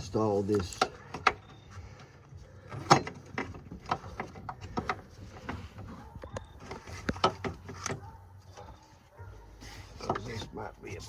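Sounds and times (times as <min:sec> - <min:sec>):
engine parts clicking and knocking: 0:00.0 - 0:08.9, 0:09.7 - 0:11.0.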